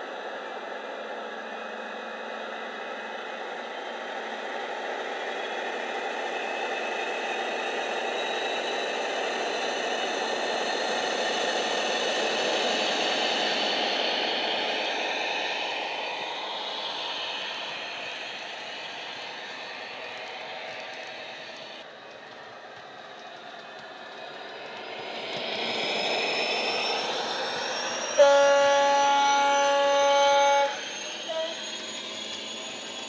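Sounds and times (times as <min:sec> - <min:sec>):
model train diesel engine sound: 0:00.0 - 0:33.0.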